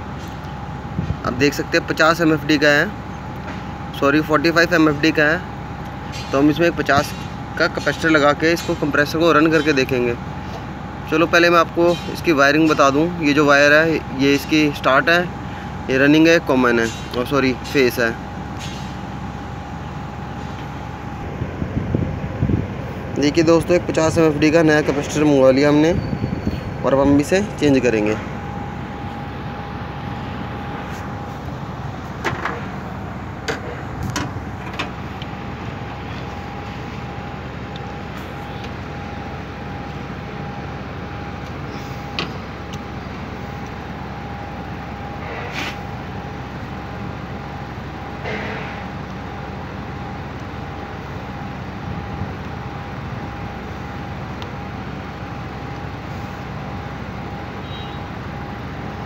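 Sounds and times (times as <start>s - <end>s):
steady background rumble: 0.0s - 57.5s
low background drone: 0.0s - 59.0s
thin constant whine: 0.0s - 59.0s.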